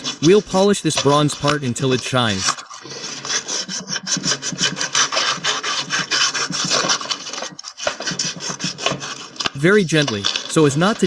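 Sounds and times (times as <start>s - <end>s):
sandpaper rasping on metal: 0.0s - 11.0s.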